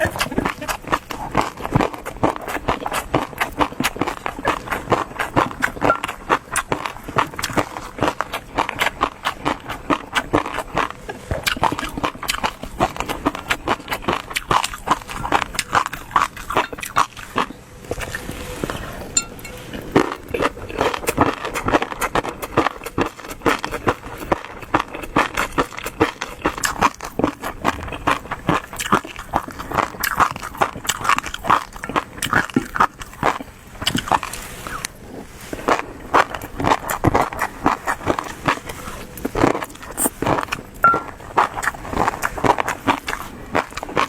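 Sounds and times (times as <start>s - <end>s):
person chewing and smacking food: 0.0s - 44.0s.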